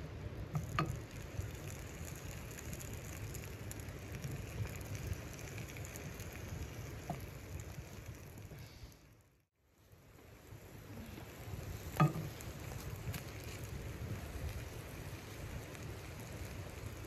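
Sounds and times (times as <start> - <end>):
rain-like patter: 0.0 - 17.0.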